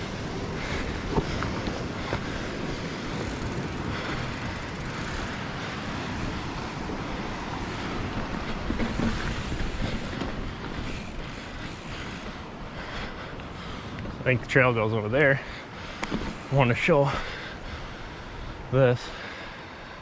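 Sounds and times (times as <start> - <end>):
wind blowing across microphone: 0.0 - 18.9.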